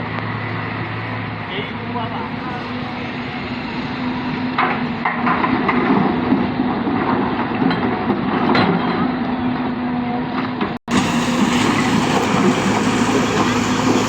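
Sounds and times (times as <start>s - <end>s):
diesel excavator engine running: 0.0s - 14.0s.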